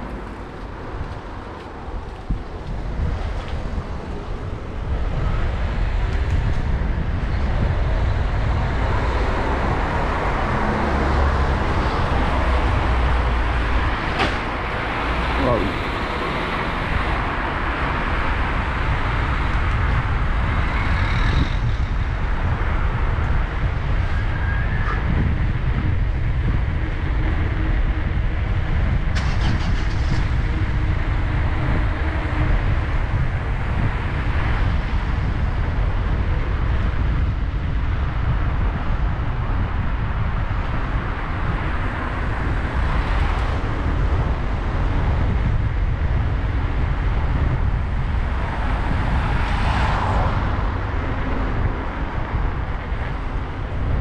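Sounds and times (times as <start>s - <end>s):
vehicle rumbling in motion: 0.0s - 54.0s.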